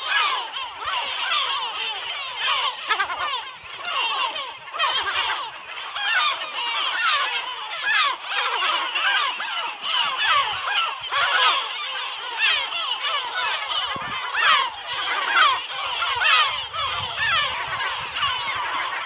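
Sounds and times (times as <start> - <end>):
gulls calling: 0.0 - 19.0.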